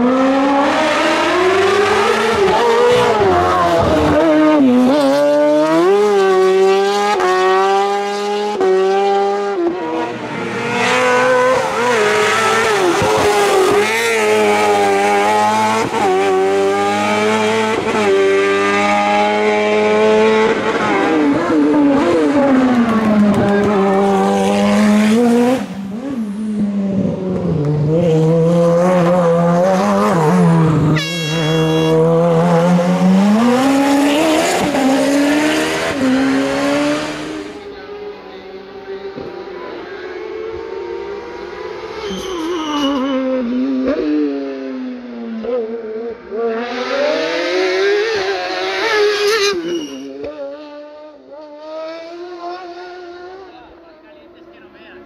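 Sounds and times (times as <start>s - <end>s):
race car engine revving: 0.0s - 42.2s, 42.9s - 53.8s.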